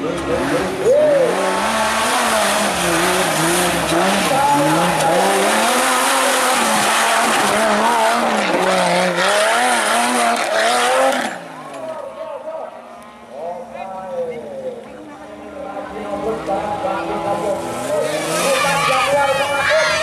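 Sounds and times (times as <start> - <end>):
off-road engine revving: 0.0 - 12.1, 12.8 - 20.0.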